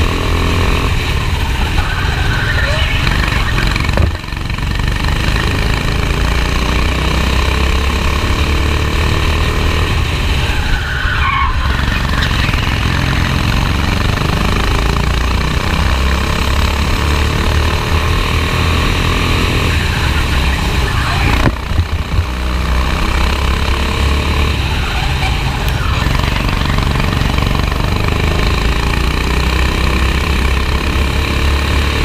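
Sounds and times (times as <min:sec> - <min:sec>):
racing kart engine revving: 0:00.0 - 0:32.0.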